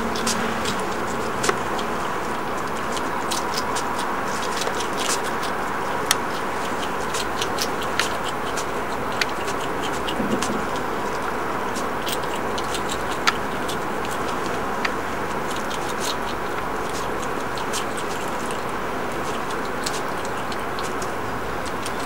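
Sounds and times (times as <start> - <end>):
hedgehog chewing crunchy food: 0.0 - 22.0.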